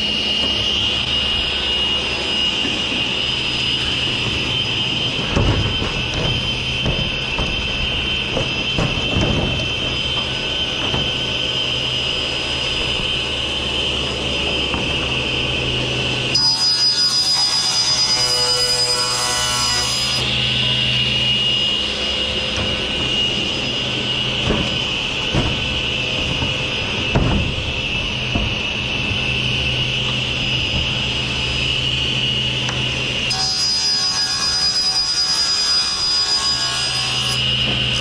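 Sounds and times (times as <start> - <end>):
table saw cutting plywood: 0.0 - 38.0.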